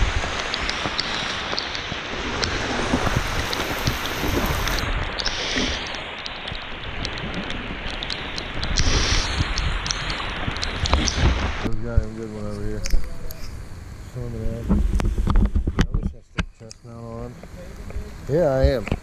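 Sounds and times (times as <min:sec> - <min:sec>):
heavy rain downpour: 0:00.0 - 0:15.9, 0:17.0 - 0:19.0.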